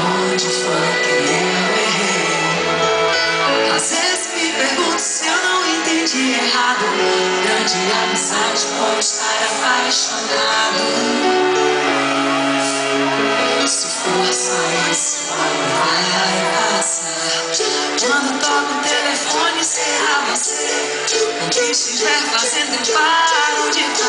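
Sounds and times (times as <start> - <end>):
woman singing into microphone: 0.0 - 12.0, 13.4 - 24.0
pop music backing: 0.0 - 24.0.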